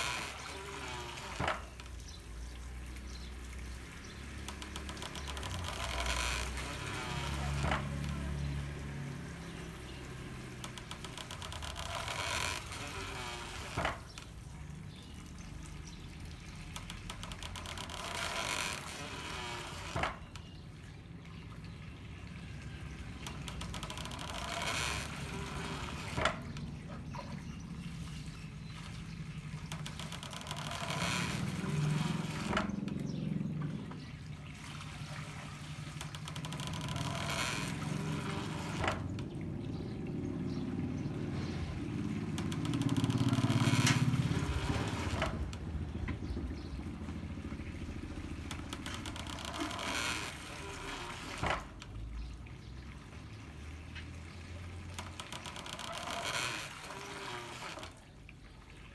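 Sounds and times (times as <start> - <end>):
mill arm knocking: 0.0 - 20.8, 22.2 - 52.0
water pouring and spilling: 0.0 - 58.9
water trickling: 0.0 - 58.9.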